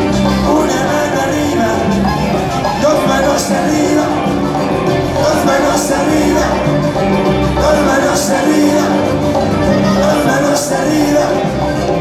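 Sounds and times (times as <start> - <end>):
live band instrumental music: 0.0 - 12.0.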